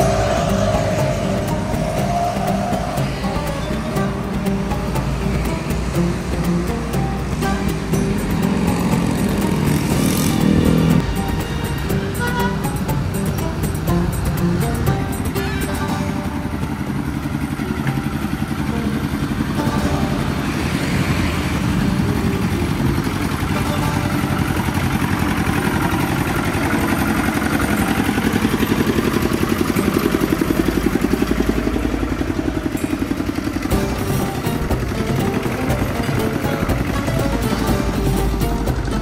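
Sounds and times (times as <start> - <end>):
engine chugging: 0.0 - 39.0
motorcycle and vehicle engines: 0.0 - 39.0.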